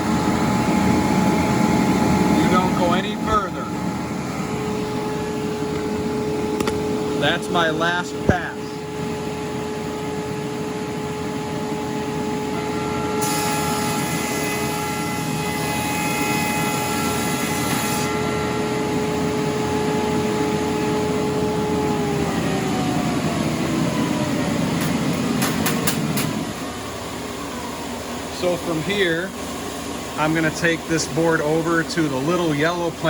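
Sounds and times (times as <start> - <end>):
thickness planer humming: 0.0 - 33.0.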